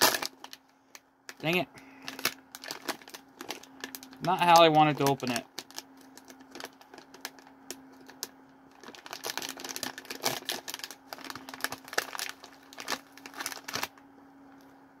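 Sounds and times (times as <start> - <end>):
plastic snack bag crinkling: 0.0 - 0.7, 1.3 - 14.0
faint steady hum: 0.0 - 15.0.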